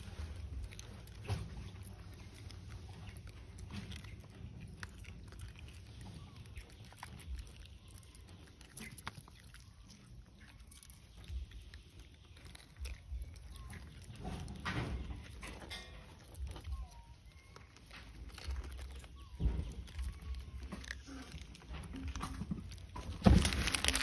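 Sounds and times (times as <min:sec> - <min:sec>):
monkeys clicking and rustling: 0:00.0 - 0:24.0.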